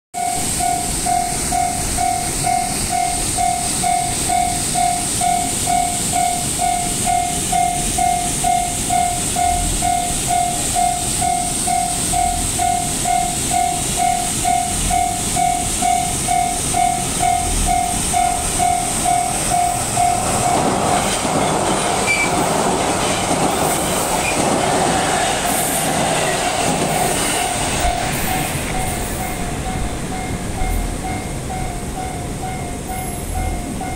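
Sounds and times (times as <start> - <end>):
level-crossing warning bell: 0.2 - 24.5, 25.5 - 33.9
electric train running: 0.2 - 33.9.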